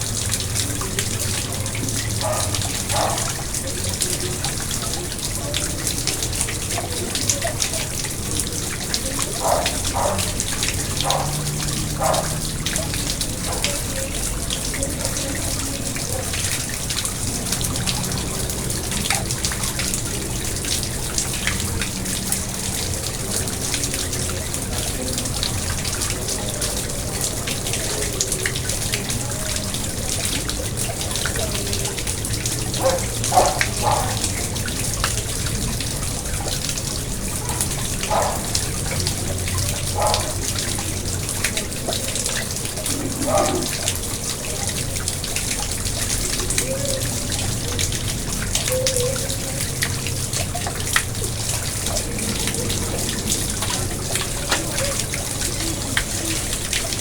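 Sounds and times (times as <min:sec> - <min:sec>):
pond water trickling and splashing: 0:00.0 - 0:57.0.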